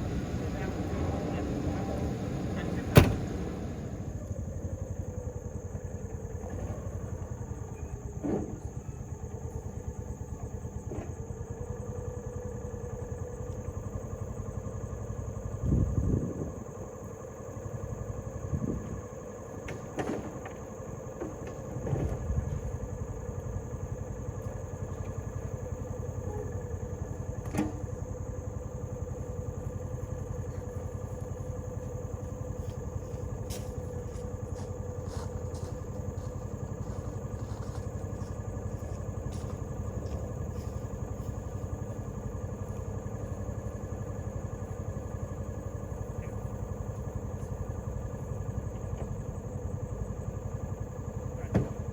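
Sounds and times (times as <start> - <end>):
vehicle engine running: 0.0 - 19.6, 20.5 - 51.9.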